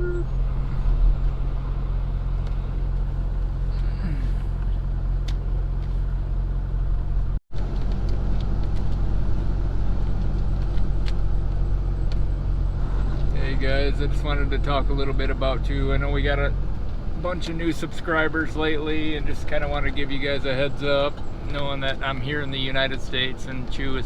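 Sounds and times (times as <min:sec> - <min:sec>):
road noise: 0:00.0 - 0:24.0
truck diesel engine drone: 0:00.0 - 0:24.0.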